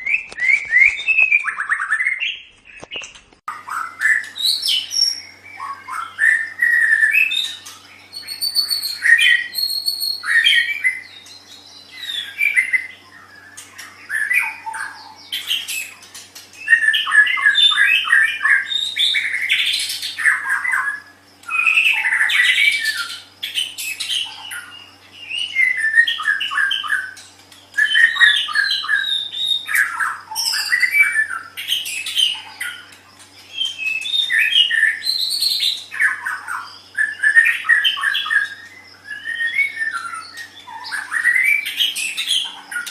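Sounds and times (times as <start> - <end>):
songbird singing varied whistles: 3.6 - 15.9, 16.6 - 32.9, 33.5 - 42.9.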